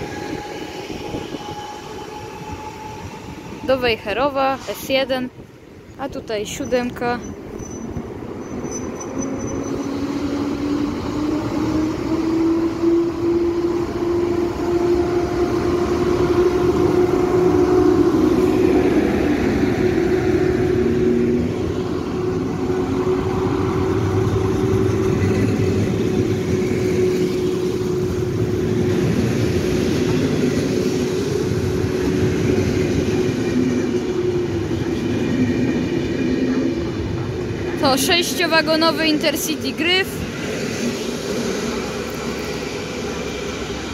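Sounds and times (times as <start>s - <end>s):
electric locomotive hum: 0.0s - 43.9s
train wheels rumbling on rails: 0.0s - 43.9s.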